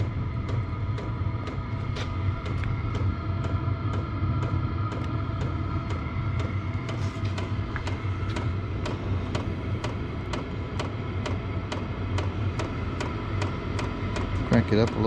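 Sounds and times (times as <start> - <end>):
fan whine: 0.0 - 15.0
fuel pump ticking: 0.0 - 15.0
heater blower humming: 0.0 - 15.0.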